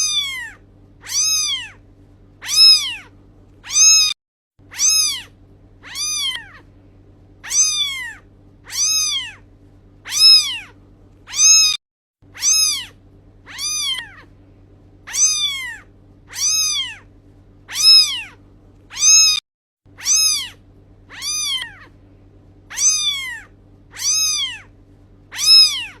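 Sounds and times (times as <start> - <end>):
cat meowing: 0.0 - 1.8, 2.4 - 6.7, 7.4 - 9.4, 10.0 - 14.3, 15.0 - 17.1, 17.7 - 19.4, 20.0 - 22.0, 22.7 - 24.7, 25.3 - 26.0
faint steady hum: 0.0 - 26.0.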